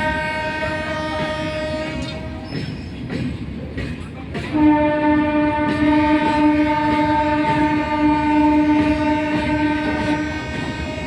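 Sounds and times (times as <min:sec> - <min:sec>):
train horn blast: 0:00.0 - 0:02.5, 0:04.5 - 0:11.0
train rumbling: 0:00.0 - 0:11.0.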